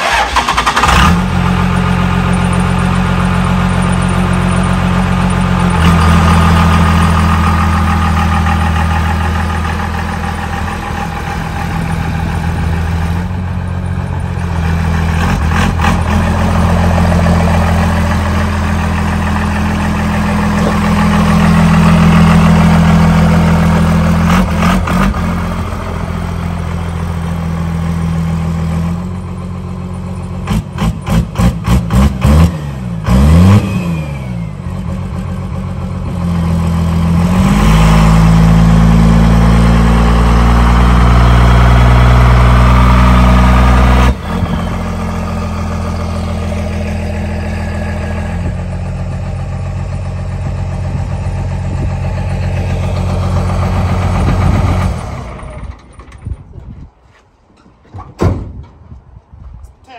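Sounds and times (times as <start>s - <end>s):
diesel engine idling: 0.0s - 31.7s, 32.8s - 56.6s.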